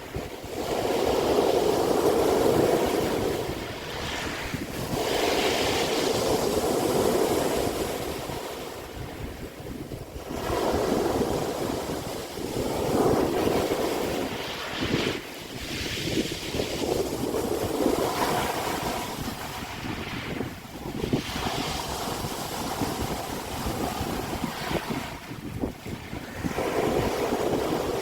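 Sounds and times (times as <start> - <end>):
sea waves breaking: 0.0 - 28.0.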